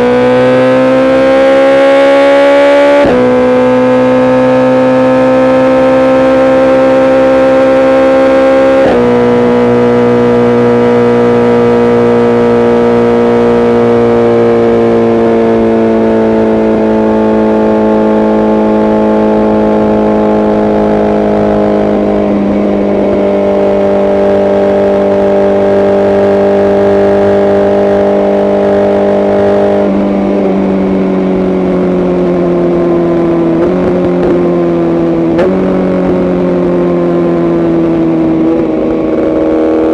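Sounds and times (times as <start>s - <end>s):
sport motorcycle engine cruising: 0.0s - 39.9s.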